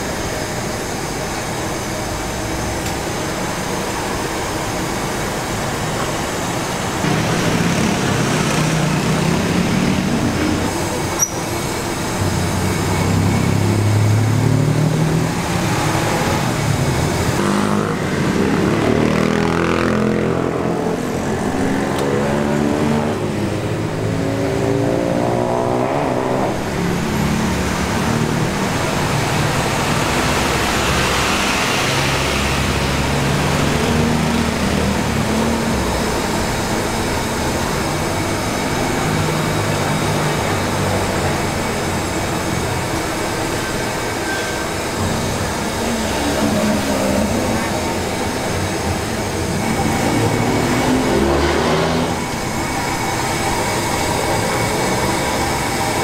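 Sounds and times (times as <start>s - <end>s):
steady roadway noise: 0.0s - 56.0s
vehicles passing by: 0.0s - 56.0s.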